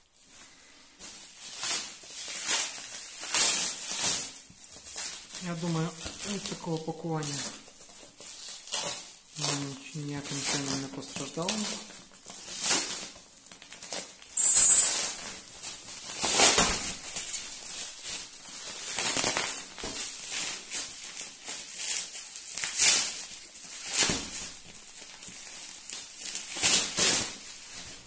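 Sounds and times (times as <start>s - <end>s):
plastic wrapping crinkling: 0.0s - 14.4s, 15.0s - 28.0s.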